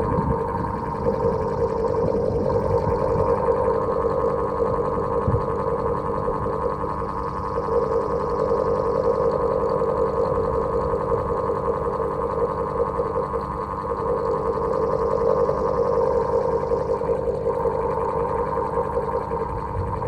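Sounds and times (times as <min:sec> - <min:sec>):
electric fan humming: 0:00.0 - 0:20.0.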